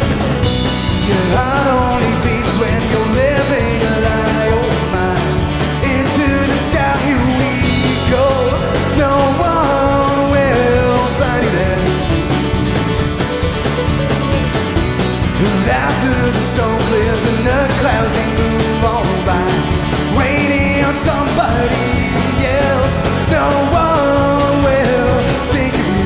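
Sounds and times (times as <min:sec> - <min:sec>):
drum kit: 0:00.0 - 0:26.0
electric bass: 0:00.0 - 0:26.0
picked mandolin: 0:00.0 - 0:26.0
strummed acoustic guitar: 0:00.0 - 0:26.0
man singing lead vocal: 0:00.8 - 0:12.6, 0:15.4 - 0:26.0.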